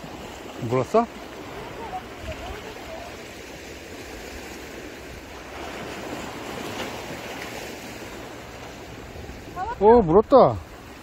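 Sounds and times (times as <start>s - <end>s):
waves washing over rocks: 0.0s - 11.0s.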